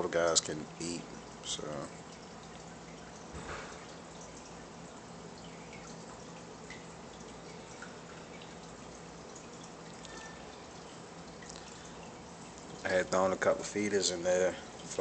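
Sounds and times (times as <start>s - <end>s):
water trickling and dripping: 0.0s - 15.0s.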